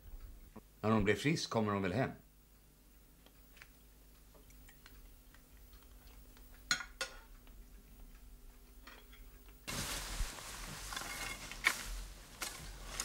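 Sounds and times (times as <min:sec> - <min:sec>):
outdoor noise hiss: 0:00.0 - 0:13.0.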